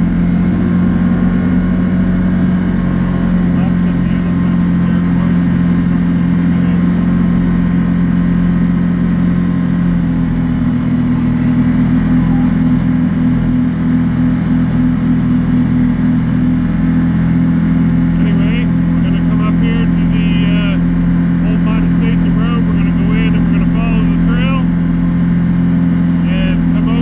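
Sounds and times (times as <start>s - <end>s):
side-by-side engine running: 0.0s - 27.0s.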